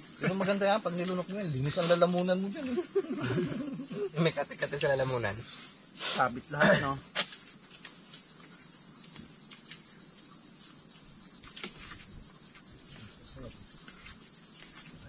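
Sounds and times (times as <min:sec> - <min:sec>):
insect chorus buzzing: 0:00.0 - 0:15.0.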